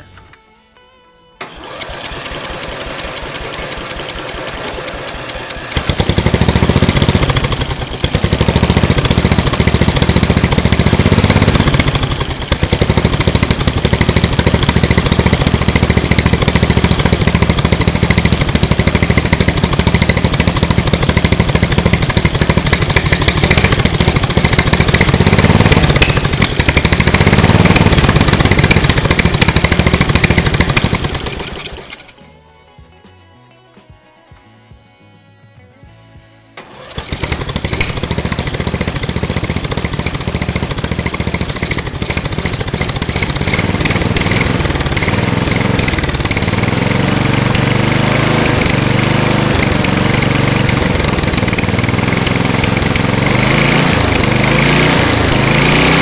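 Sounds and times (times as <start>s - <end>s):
engine starter cranking: 1.4s - 32.2s, 36.6s - 56.0s
lawn mower engine running: 1.4s - 32.5s, 36.6s - 56.0s.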